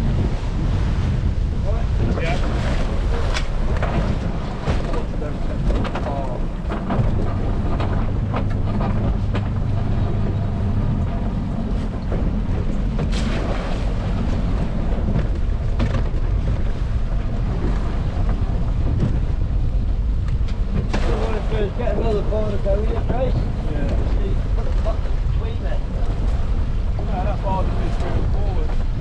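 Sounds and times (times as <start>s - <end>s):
outboard motor running: 0.0s - 29.0s
water rushing past hull: 0.0s - 29.0s
wind on microphone: 0.0s - 29.0s.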